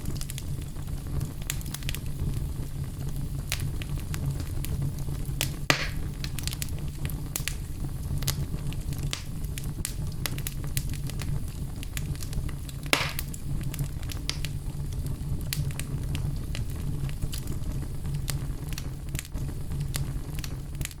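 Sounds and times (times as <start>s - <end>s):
fire popping: 0.0s - 21.0s
low rumble of flames: 0.0s - 21.0s
wood fire crackling: 0.0s - 21.0s.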